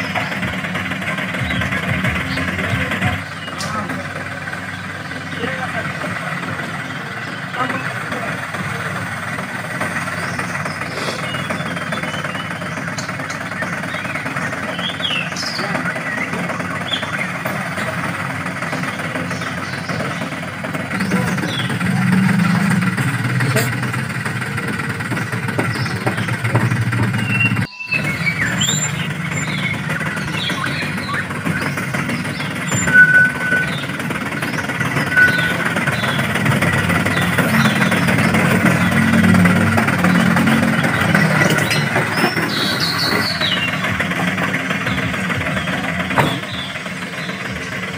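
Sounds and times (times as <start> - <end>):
toy truck engine rumbling: 0.0 - 47.9.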